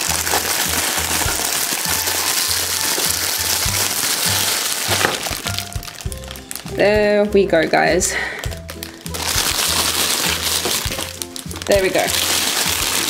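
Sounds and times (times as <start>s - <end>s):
plastic and bubble wrap crinkling: 0.0s - 13.0s.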